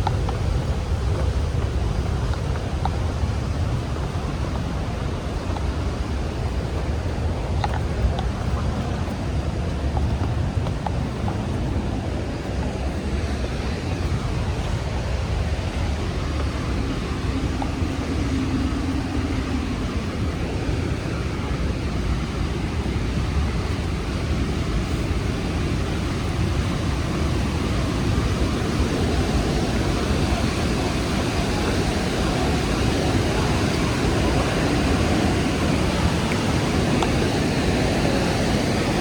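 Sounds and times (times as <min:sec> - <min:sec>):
waterfall roar: 0:00.0 - 0:39.0.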